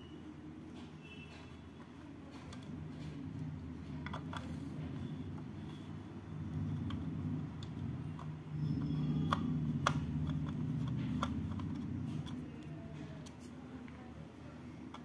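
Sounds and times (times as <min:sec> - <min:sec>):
screwdriver rubbing and clicking: 0:01.5 - 0:13.6.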